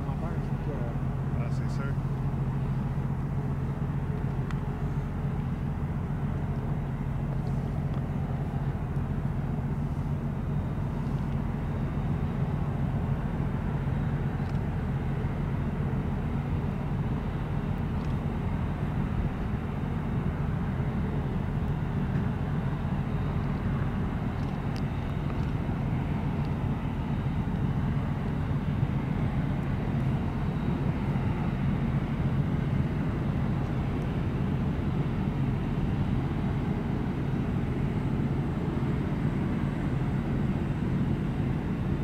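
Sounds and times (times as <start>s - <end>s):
jet engines low rumble: 0.0s - 42.0s.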